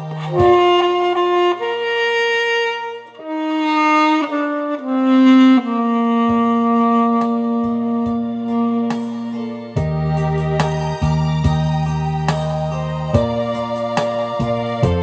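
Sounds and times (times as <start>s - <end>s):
low accompaniment notes: 0.0s - 15.0s
saxophone slow melody: 0.0s - 15.0s.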